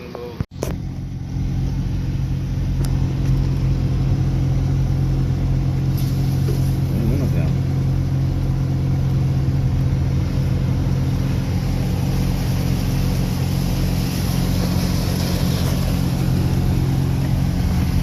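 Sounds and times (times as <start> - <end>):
engine humming steadily: 0.0 - 18.0.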